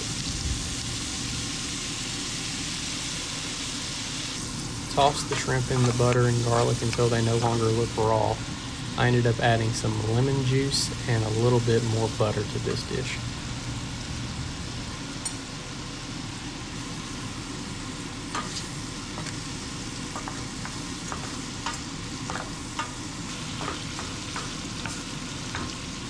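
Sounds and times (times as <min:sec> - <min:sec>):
shrimp sizzling in skillet: 0:00.0 - 0:26.0.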